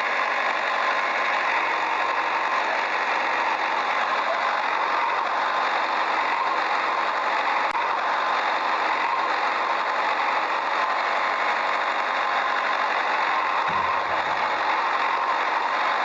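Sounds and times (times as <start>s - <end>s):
engine-like running noise: 0.0s - 16.0s.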